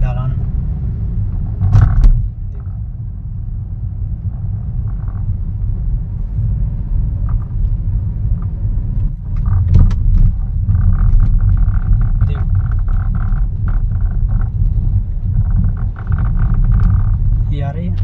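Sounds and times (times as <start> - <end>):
car driving heard from cabin: 0.0 - 18.0.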